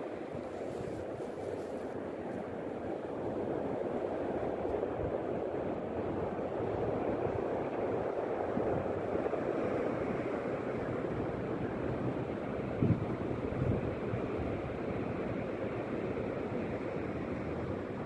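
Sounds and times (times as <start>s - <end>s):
calm sea surf: 0.0s - 18.0s.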